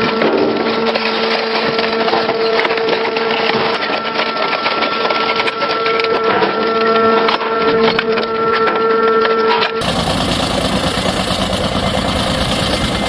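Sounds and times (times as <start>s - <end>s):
shredding machine whine: 0.0s - 13.0s.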